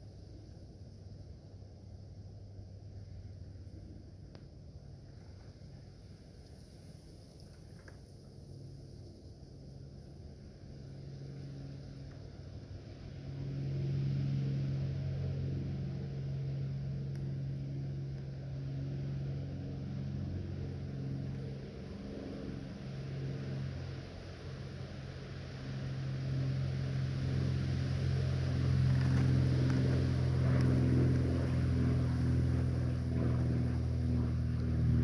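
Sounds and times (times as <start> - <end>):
low engine hum: 0.0 - 35.0.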